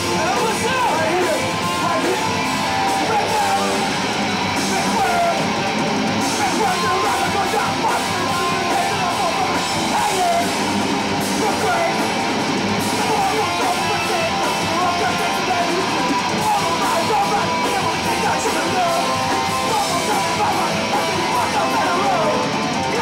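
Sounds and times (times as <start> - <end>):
punk band playing live: 0.0 - 23.0.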